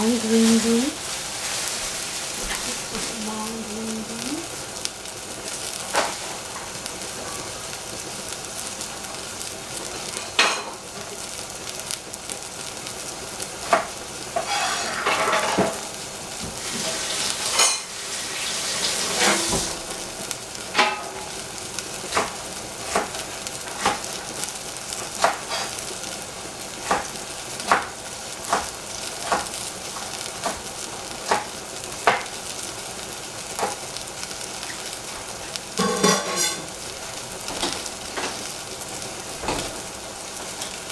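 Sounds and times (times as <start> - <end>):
mushrooms sizzling in saucepan: 0.0 - 40.9.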